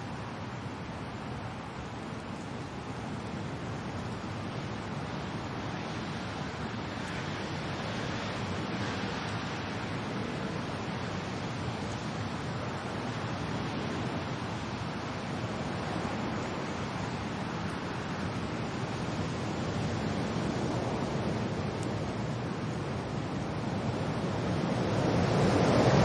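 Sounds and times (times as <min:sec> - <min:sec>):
rain: 0:00.0 - 0:26.0
wind: 0:00.0 - 0:26.0
wind buffeting microphone: 0:00.0 - 0:26.0.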